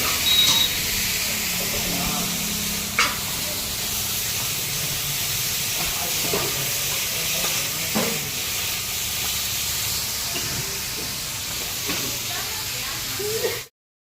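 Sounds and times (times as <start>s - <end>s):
chicken sizzling in a pan: 0.0s - 13.7s.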